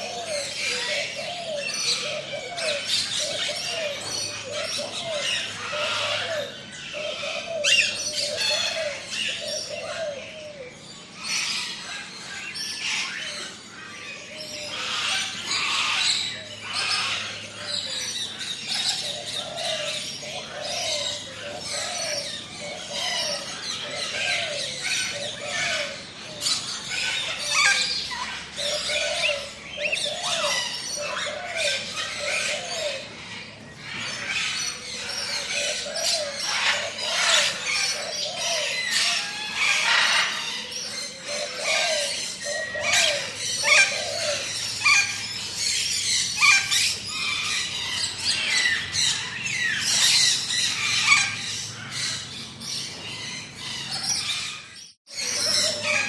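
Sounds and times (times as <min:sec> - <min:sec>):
birds chirping and whistling: 0:00.0 - 0:56.0.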